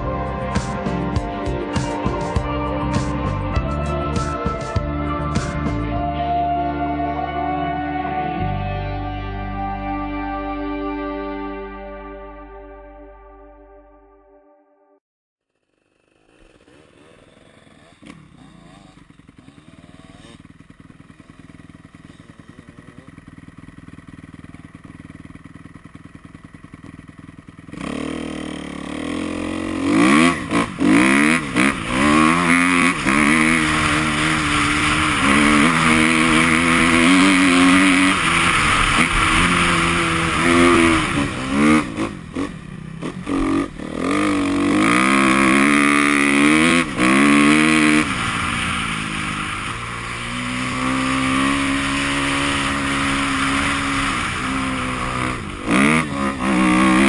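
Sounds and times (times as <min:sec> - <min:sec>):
motorcycle engine idling and revving: 0:00.0 - 0:08.7, 0:15.4 - 0:57.0.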